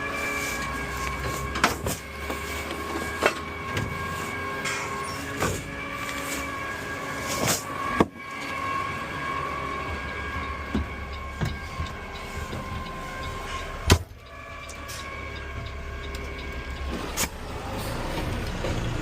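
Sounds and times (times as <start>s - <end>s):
garbage truck whine: 0.0s - 19.0s
truck engine rumble: 0.0s - 19.0s.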